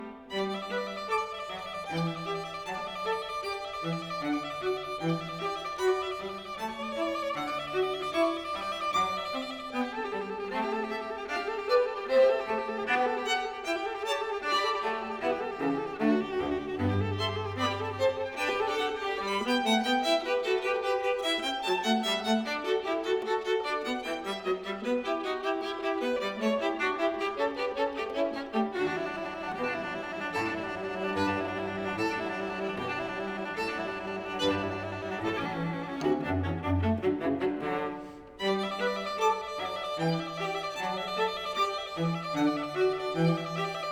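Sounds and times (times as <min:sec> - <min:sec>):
violin string piece: 0:00.0 - 0:43.9.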